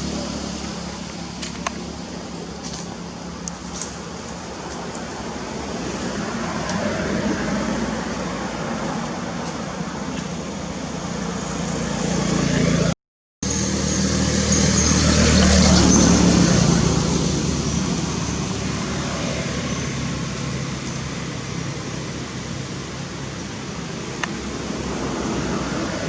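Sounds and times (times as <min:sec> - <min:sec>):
outdoor background hiss: 0:00.0 - 0:12.9, 0:13.5 - 0:26.0
road vehicle passing: 0:00.0 - 0:26.0.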